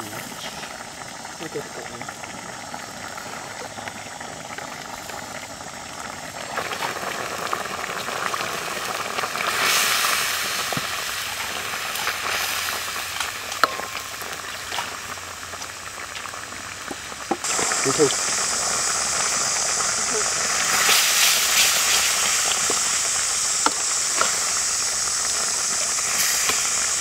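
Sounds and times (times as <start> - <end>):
curry bubbling in a wok: 0.0 - 27.0.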